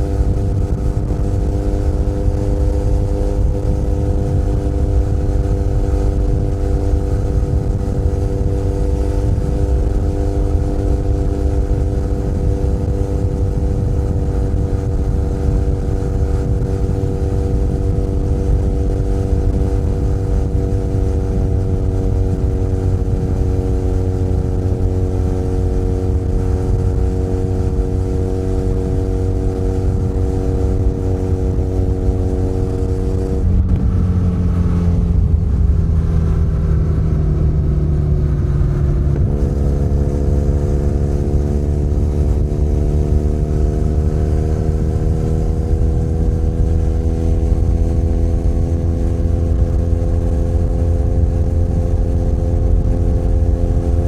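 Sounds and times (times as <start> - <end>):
motorcycle engine cruising: 0.0 - 54.0
road and wind noise: 0.0 - 54.0.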